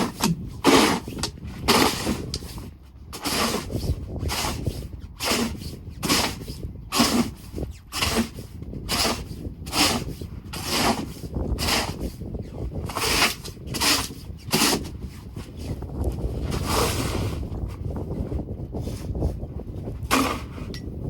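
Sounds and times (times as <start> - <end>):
snow shovel scraping snow: 0.0 - 2.6, 3.2 - 12.2, 12.9 - 17.5, 20.0 - 20.7.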